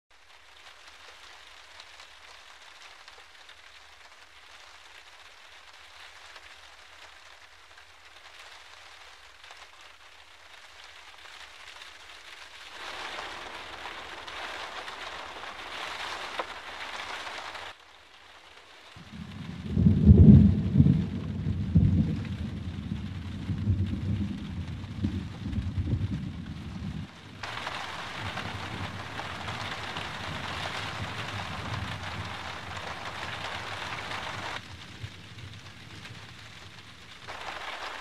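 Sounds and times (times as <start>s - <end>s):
steady rain falling: 0.1s - 38.0s.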